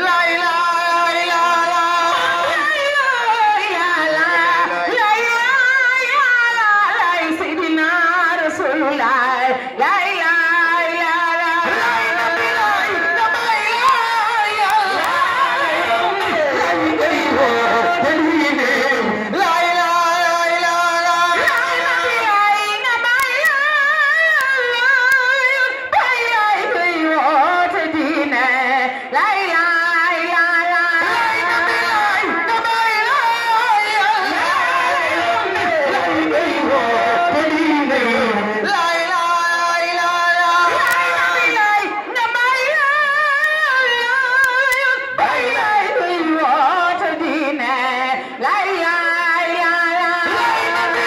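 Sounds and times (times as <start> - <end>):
man singing a chant: 0.0 - 7.8, 8.4 - 24.1, 25.9 - 42.0, 42.6 - 51.0.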